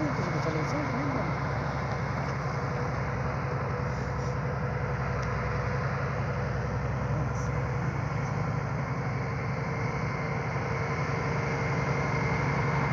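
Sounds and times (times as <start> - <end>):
truck diesel engine droning: 0.0 - 12.9.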